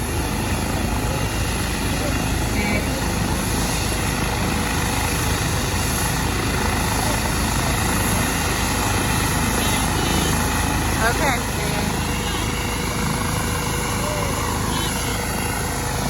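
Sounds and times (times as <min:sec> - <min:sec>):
helicopter rotor whir: 0:00.0 - 0:16.0.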